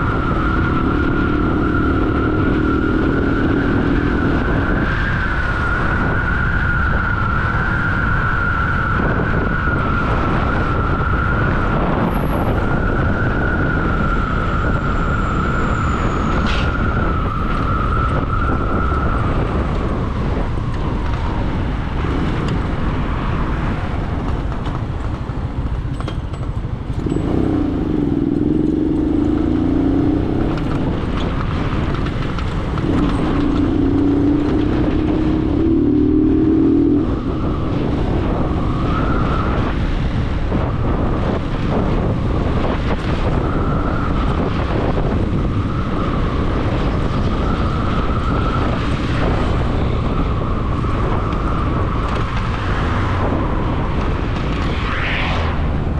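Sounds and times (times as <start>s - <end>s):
vehicle engine and road rumble: 0.0s - 55.9s.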